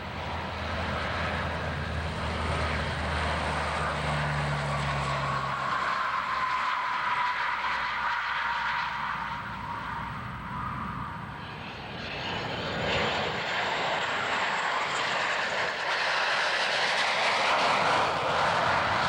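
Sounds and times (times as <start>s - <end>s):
aircraft engine roaring: 0.0s - 19.0s.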